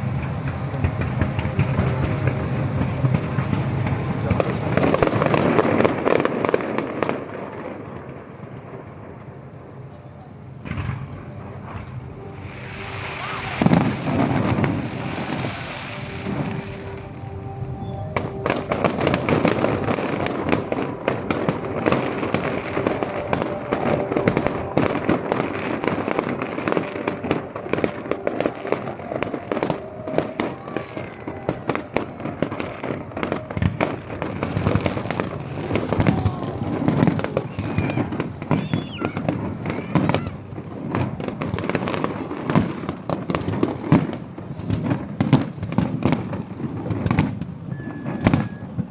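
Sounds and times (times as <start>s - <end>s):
music playing: 0.0s - 7.6s, 9.0s - 43.6s
fireworks bangs and crackles: 0.0s - 48.9s.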